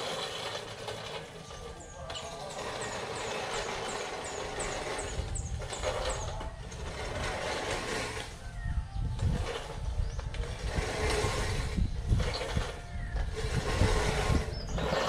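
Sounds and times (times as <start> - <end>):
reel mower blades whirring: 0.0 - 15.0.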